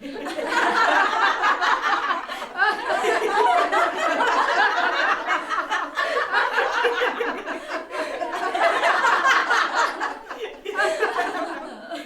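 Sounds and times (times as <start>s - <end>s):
crowd laughing: 0.0s - 12.0s.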